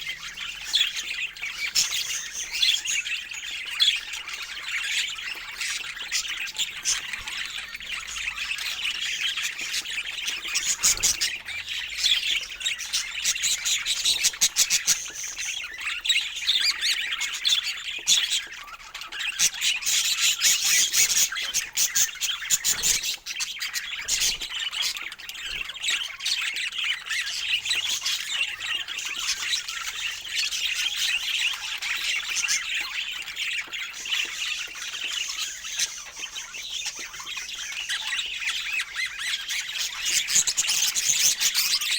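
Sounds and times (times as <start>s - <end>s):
budgerigars chattering and chirping: 0.0s - 41.9s.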